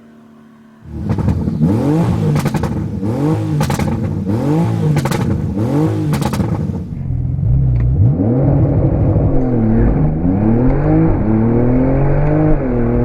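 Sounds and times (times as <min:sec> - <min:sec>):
car engine revving: 0:00.0 - 0:13.0
exhaust crackles and pops: 0:00.8 - 0:13.0.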